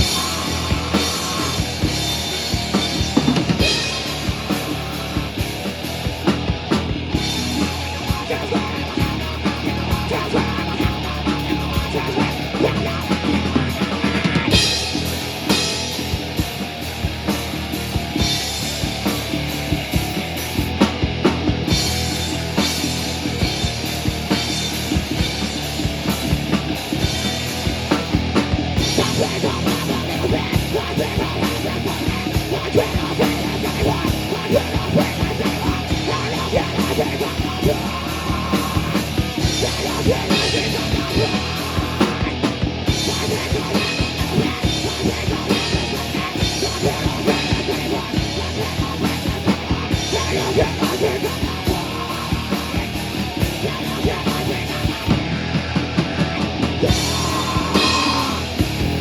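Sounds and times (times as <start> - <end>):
distorted electric guitar: 0.0 - 59.0
drum kit: 0.0 - 59.0
rock band playing live: 0.0 - 59.0.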